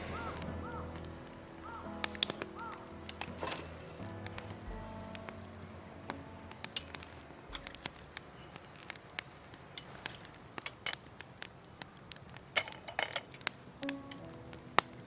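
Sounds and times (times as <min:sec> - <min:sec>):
campfire crackling and snapping: 0:00.0 - 0:15.0.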